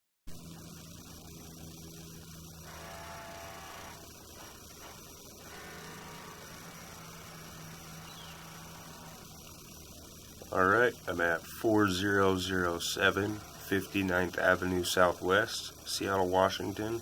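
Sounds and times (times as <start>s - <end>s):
low electrical hum: 0.3s - 17.0s
faint hiss: 0.6s - 17.0s.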